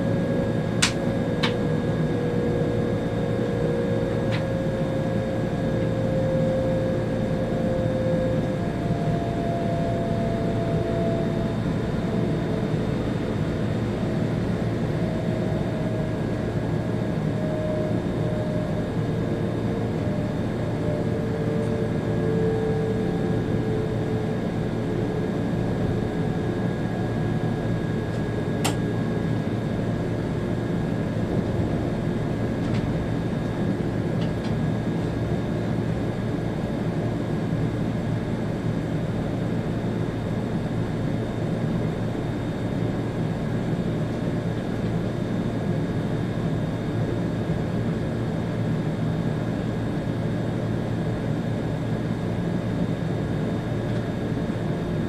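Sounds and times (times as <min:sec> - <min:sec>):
train running noise with whine: 0:00.0 - 0:55.0.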